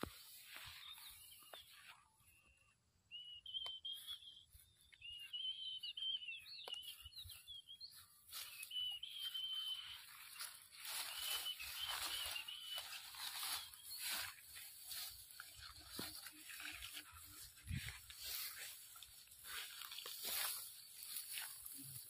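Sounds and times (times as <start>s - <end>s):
footsteps crunching through dry grass: 0.0s - 2.4s, 3.5s - 22.0s
bird singing: 0.0s - 22.0s.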